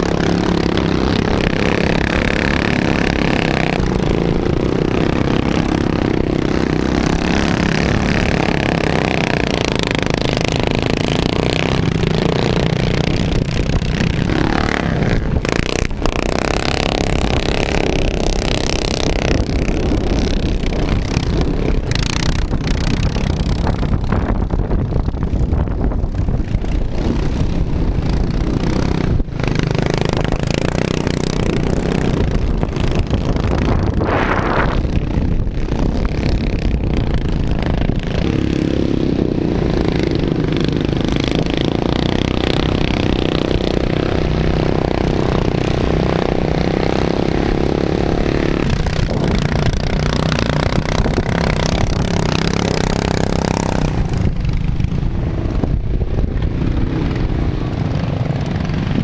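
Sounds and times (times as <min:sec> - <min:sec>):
lawn mower engine running hard: 0:00.0 - 0:59.0.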